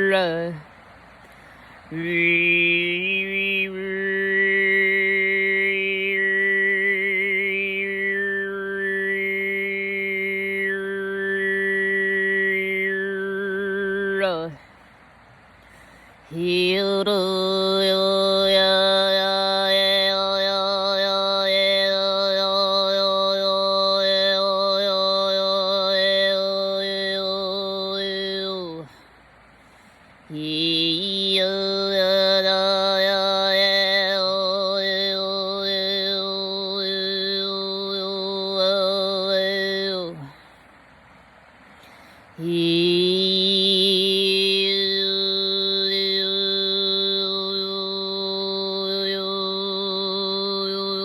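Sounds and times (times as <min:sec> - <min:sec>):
low throat singing drone: 0:01.9 - 0:14.6, 0:16.2 - 0:29.0, 0:30.3 - 0:40.5, 0:42.4 - 0:51.0.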